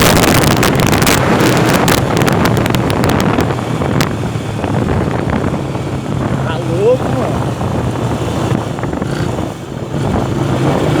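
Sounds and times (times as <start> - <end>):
vehicle engine hum: 0.0 - 11.0
wind noise on microphone: 0.0 - 11.0.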